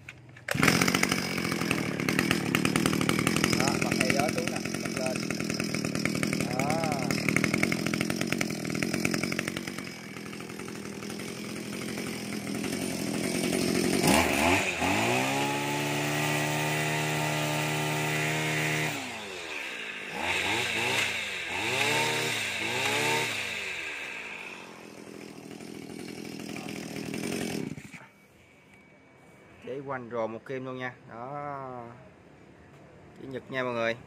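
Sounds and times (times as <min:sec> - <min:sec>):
brush cutter engine revving: 0:00.4 - 0:28.2.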